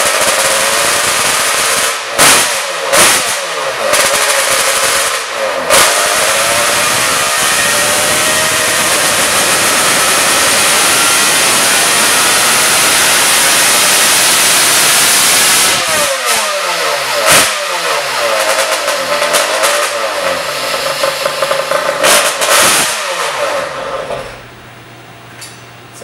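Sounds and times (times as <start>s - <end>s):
two-stroke engine revving: 0.0s - 24.4s.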